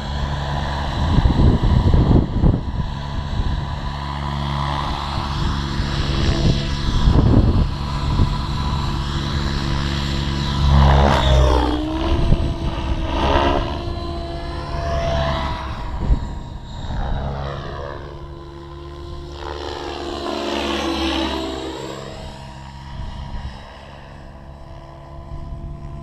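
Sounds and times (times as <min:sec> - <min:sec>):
wind rumble on microphone: 0:00.0 - 0:20.0, 0:20.6 - 0:26.0
rc helicopter rotor whine: 0:00.0 - 0:26.0.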